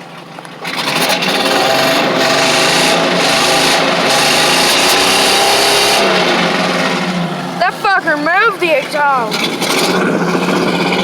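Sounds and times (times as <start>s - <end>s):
harsh exhaust blasting: 0.6s - 11.0s
van engine revving high: 0.6s - 11.0s.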